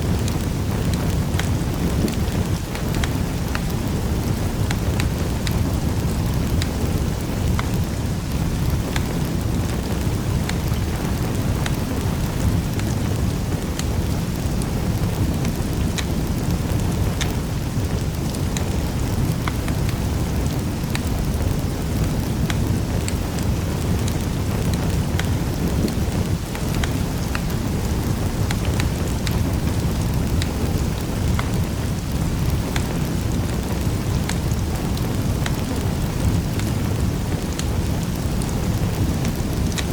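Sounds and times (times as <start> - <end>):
burning wood crackling and popping: 0.0 - 39.9
low rumble of flame: 0.0 - 39.9.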